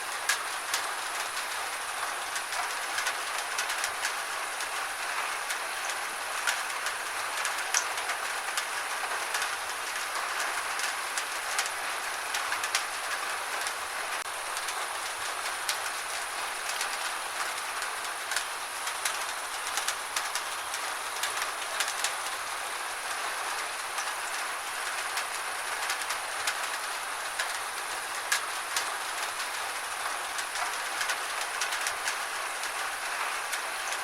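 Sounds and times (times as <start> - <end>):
gentle steady rain: 0.0 - 34.0
raindrops ticking on surface: 0.0 - 34.0.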